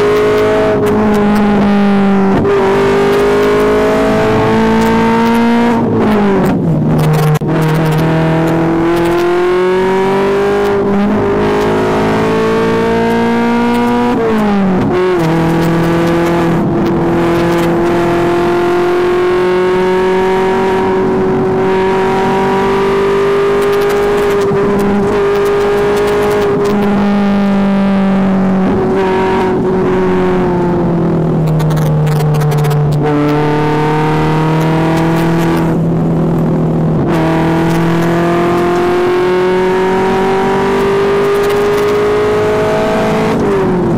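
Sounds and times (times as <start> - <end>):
car engine and exhaust under load: 0.0 - 43.9.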